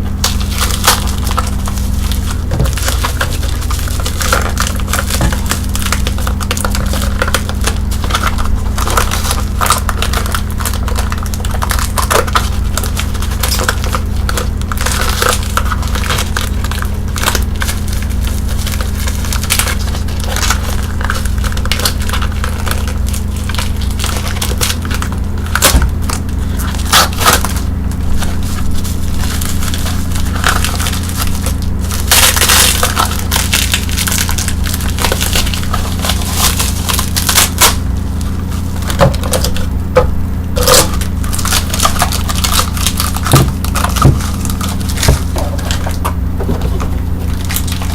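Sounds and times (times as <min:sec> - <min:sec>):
bubble wrap popping: 0:00.0 - 0:47.9
steady low hum: 0:00.0 - 0:47.9.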